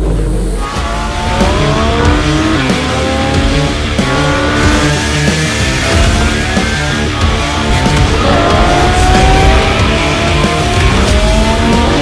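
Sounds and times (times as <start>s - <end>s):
car engine revving: 0.0s - 12.0s
music with steady beat: 0.0s - 12.0s.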